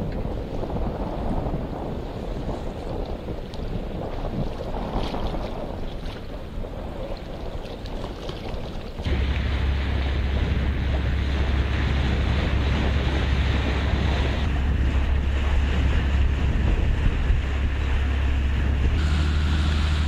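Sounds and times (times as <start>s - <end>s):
choppy water: 0.0s - 20.0s
wind buffeting microphone: 0.0s - 20.0s.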